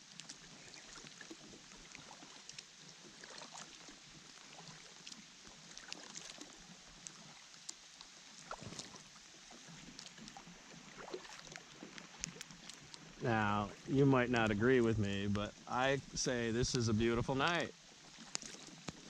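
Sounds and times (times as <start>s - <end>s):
light rain on a lake: 0.0s - 19.0s.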